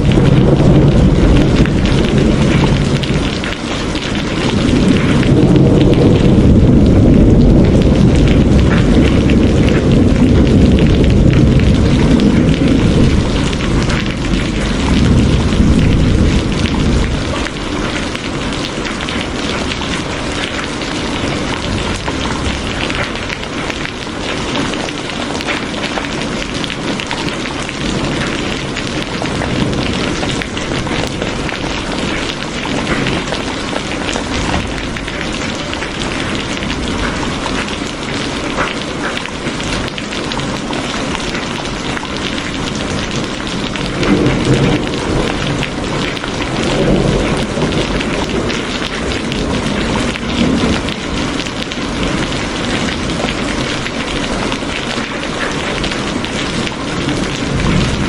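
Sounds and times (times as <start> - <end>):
deep thunder rumbling: 0.0 - 58.0
steady rain: 0.0 - 58.0.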